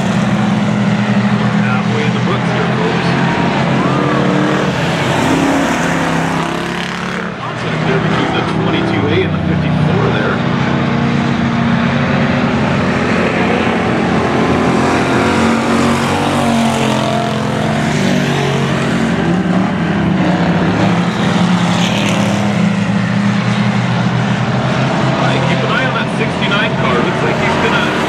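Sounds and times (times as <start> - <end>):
race car engines droning: 0.0 - 28.0
race car passing by: 0.0 - 28.0.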